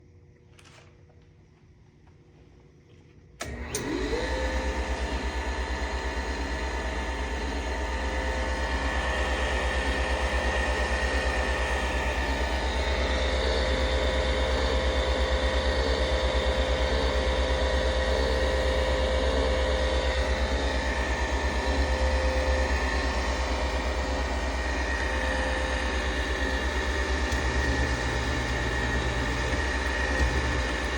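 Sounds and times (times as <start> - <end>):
grinder motor whining and humming: 3.4 - 30.9.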